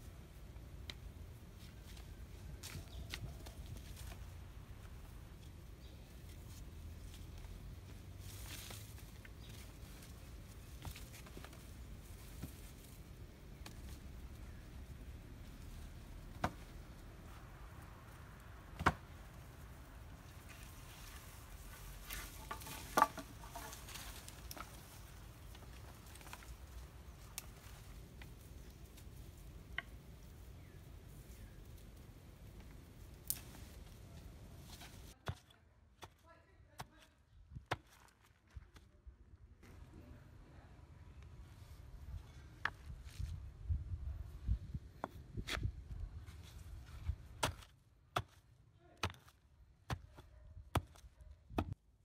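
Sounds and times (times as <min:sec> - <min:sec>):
digging soil knocks and scrapes: 0:00.2 - 0:14.7, 0:15.4 - 0:38.9, 0:44.6 - 0:51.8.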